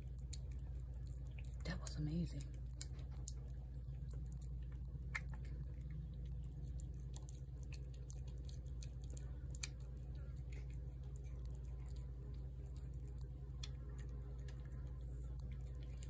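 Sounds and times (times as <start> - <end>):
cat chewing wet food: 0.0 - 16.0
low hum: 0.0 - 16.0.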